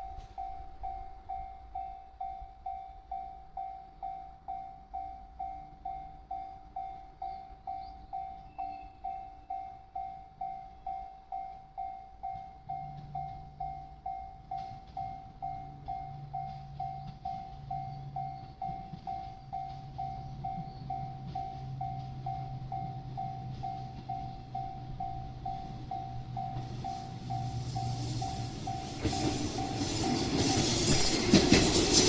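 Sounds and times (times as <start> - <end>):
level crossing warning bell: 0.0 - 32.0
train rumble: 0.0 - 32.0.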